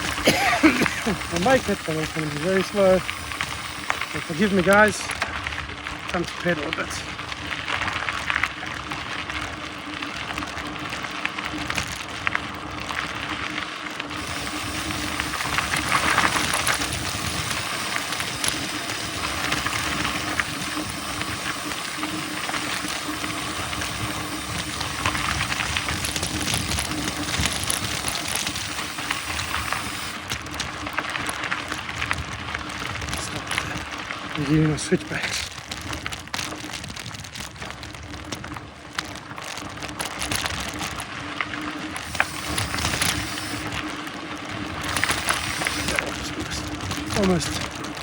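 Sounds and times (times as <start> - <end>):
bike tyre and drivetrain noise: 0.0 - 48.0.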